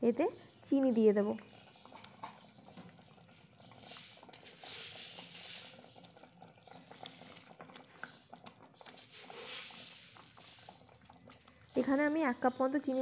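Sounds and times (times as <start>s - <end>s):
pudding bubbles popping: 0.8s - 13.0s.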